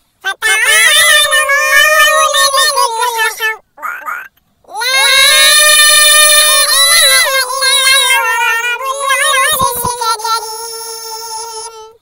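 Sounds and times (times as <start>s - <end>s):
high voice chanting: 0.2s - 12.0s.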